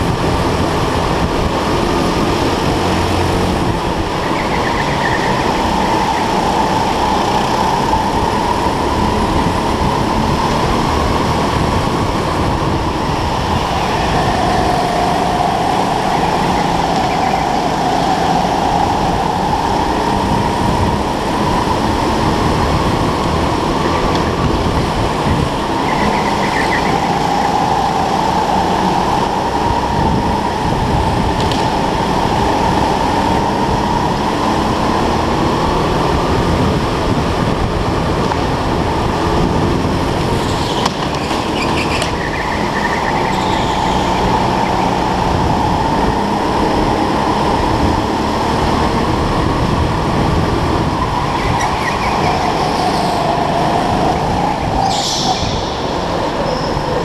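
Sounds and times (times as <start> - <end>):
go-kart engine whine: 0.0 - 57.0.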